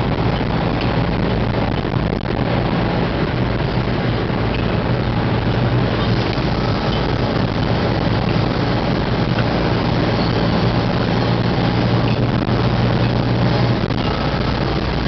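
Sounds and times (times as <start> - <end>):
car engine and tyre noise: 0.0 - 15.0
low hum: 0.0 - 15.0.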